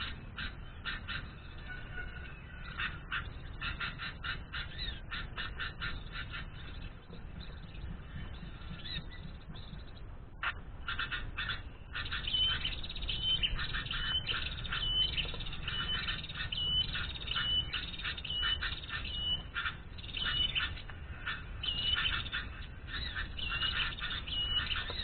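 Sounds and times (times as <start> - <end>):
bird harsh chattering: 2.6 - 25.0.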